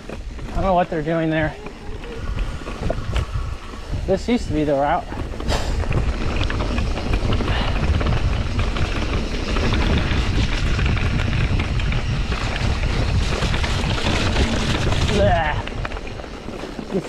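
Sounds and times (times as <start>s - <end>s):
bike rattles and clicks: 0.0s - 17.0s
tyres rolling on dirt: 0.0s - 17.0s
wind over microphone: 0.0s - 17.0s.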